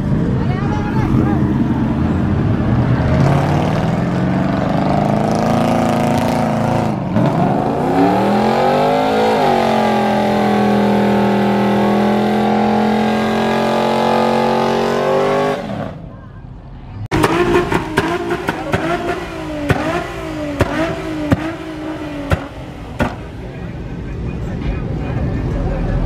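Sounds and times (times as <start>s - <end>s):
car engine revving: 0.0s - 16.1s, 17.0s - 26.0s.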